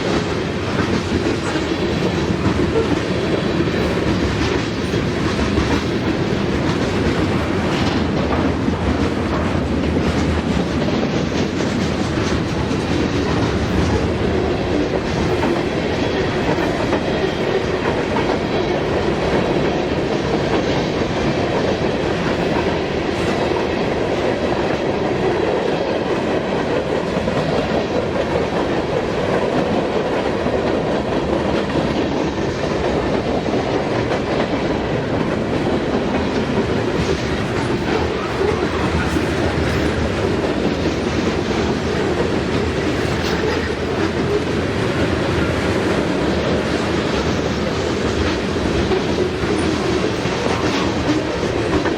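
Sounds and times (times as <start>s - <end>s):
train cars rumbling over rail joints: 0.0s - 51.9s.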